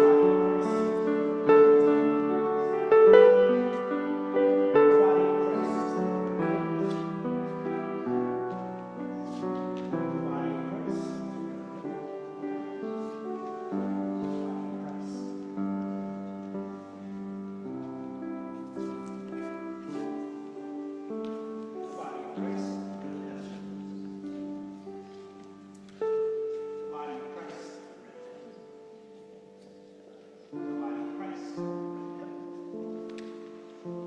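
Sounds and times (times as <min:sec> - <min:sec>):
soft keyboard chords: 0:00.0 - 0:34.0.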